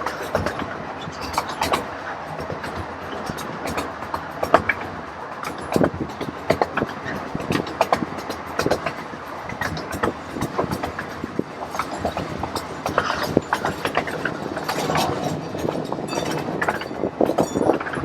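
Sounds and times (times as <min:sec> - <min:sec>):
railcar rattling: 0:00.0 - 0:18.0
train wheels clacking on track: 0:00.0 - 0:18.0.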